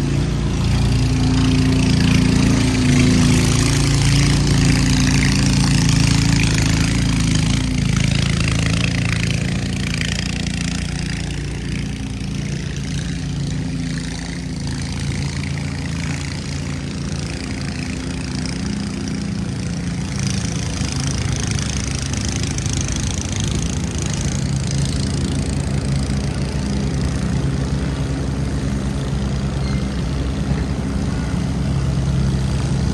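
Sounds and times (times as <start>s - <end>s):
street noise hiss: 0.0s - 32.9s
vehicle engine idling: 0.0s - 32.9s.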